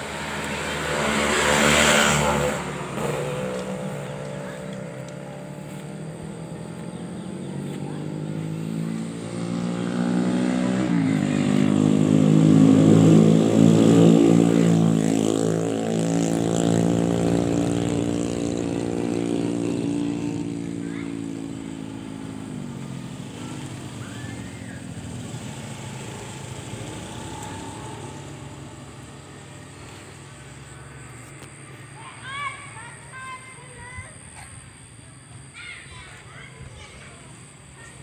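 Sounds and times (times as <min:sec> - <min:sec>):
motor engine humming: 0:00.0 - 0:38.0.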